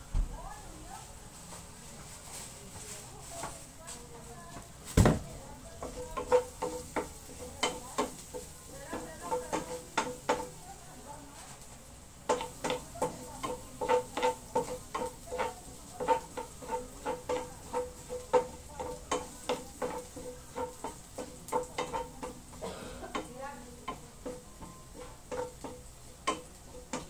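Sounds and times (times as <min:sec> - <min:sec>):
garlic sizzling faintly: 0:00.0 - 0:27.0
wooden spatula tapping frying pan: 0:04.5 - 0:27.0.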